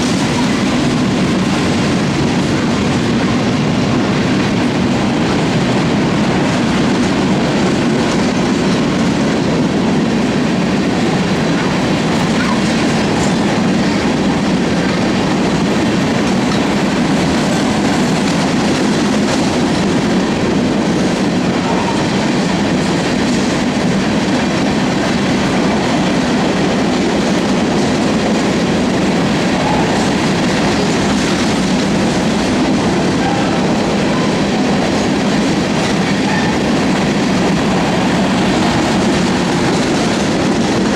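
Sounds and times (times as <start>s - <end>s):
freight train wheels clacking: 0.0s - 40.9s.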